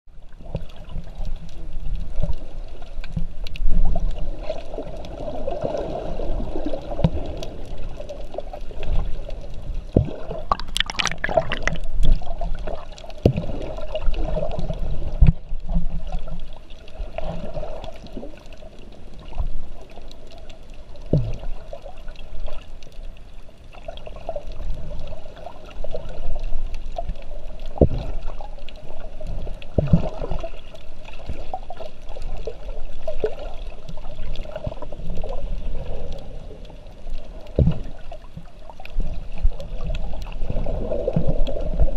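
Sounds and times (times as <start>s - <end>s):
muffled underwater sloshing: 0.1s - 41.9s.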